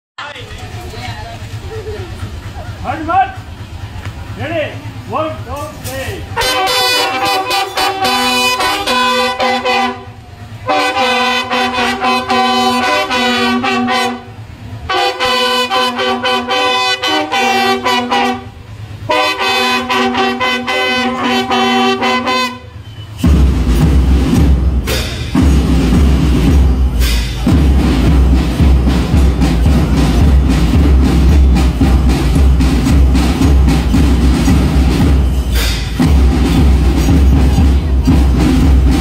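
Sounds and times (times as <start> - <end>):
marching band drums: 1.3 - 39.0
brass fanfare tune: 6.3 - 39.0.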